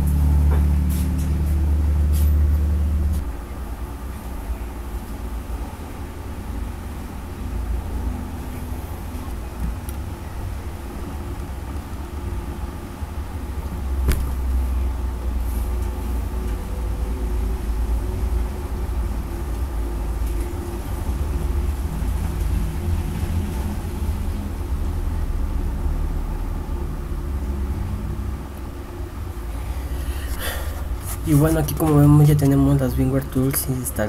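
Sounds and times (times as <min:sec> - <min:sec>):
faint hum: 0:00.0 - 0:34.0
low background rumble: 0:00.0 - 0:34.0.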